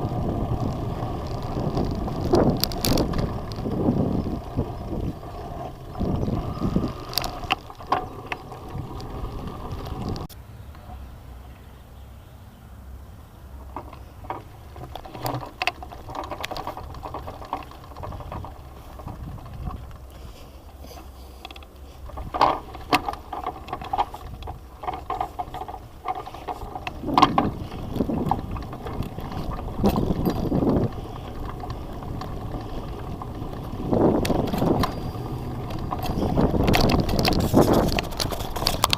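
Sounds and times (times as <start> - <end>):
bicycle clicks and rattles: 0.0 - 10.4, 13.6 - 38.9
wind rumbling on microphone: 0.0 - 11.0, 13.6 - 38.9.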